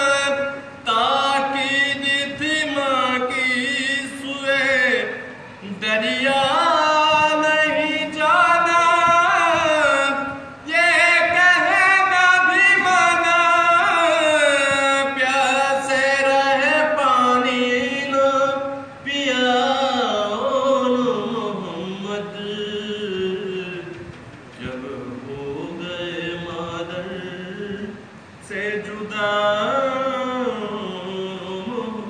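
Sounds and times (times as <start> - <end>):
man chanting into a microphone: 0.0 - 32.0.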